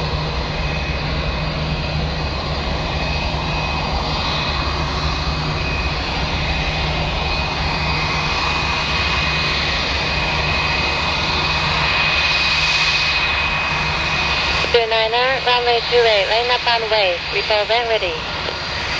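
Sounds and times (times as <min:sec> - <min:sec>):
high engine whine: 0:00.0 - 0:18.9
jet engines rumbling: 0:00.0 - 0:18.9.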